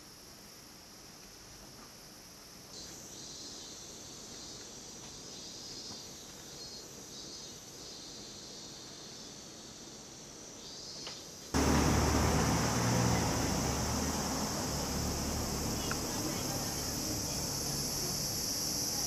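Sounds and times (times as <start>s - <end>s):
insects chirring: 2.0s - 19.0s.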